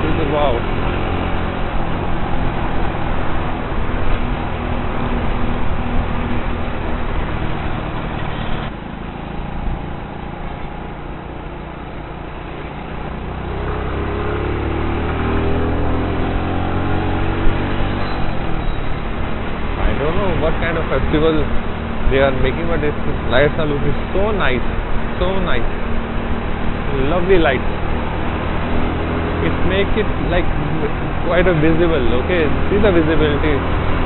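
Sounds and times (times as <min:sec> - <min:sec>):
motorcycle engine: 0:00.0 - 0:34.0.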